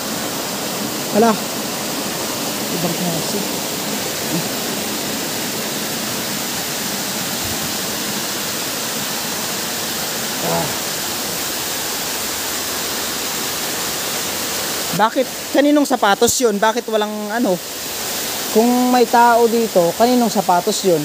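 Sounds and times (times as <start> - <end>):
cascading stream water: 0.0 - 21.0.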